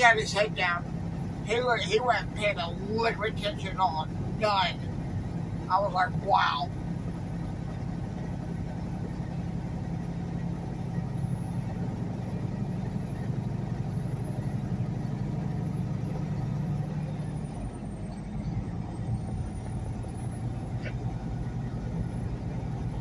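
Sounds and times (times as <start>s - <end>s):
road noise: 0.0s - 23.0s
truck diesel engine running: 0.0s - 23.0s.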